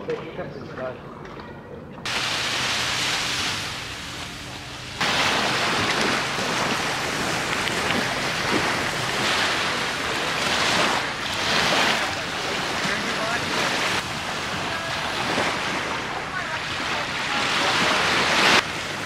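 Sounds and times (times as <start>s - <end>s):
small waves washing onto sand: 2.1s - 19.0s.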